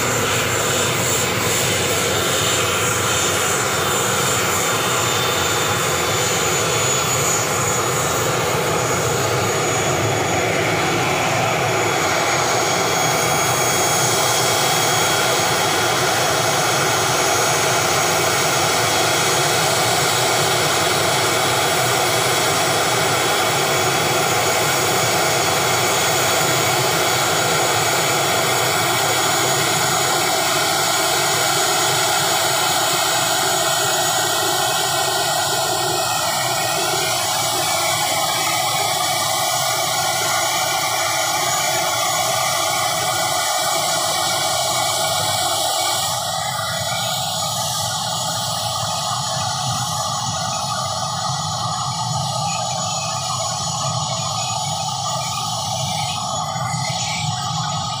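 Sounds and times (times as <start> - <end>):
turbine engine whining: 0.0 - 58.0.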